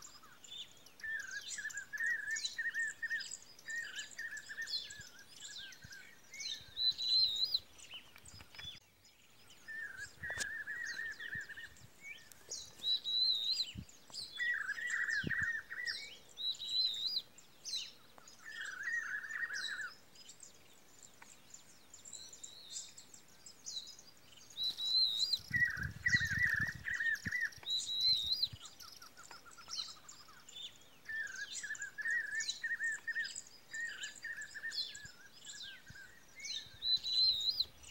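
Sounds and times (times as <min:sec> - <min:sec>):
birds chattering and chirping: 0:00.0 - 0:37.9.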